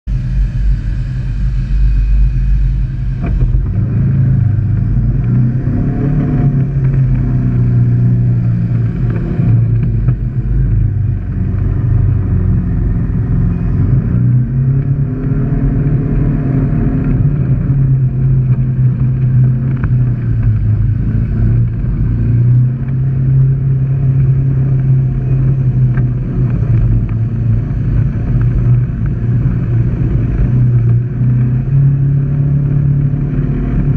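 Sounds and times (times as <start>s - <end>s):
utility vehicle engine revving: 2.0s - 33.9s.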